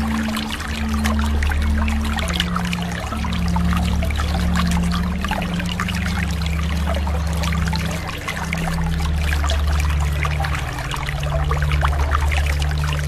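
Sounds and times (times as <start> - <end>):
low sustained drone: 0.0 - 13.0.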